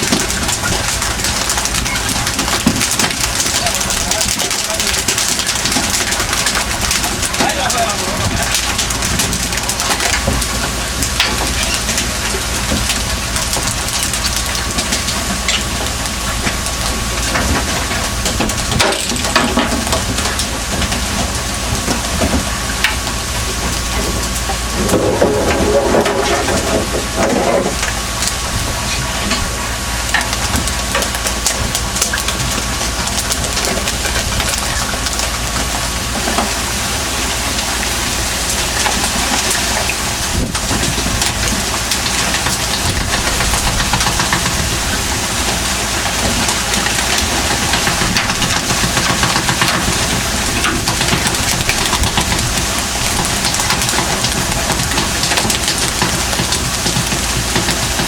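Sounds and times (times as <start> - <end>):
boat engine running: 0.0 - 58.0
rushing water: 0.0 - 58.0
wind: 0.0 - 58.0.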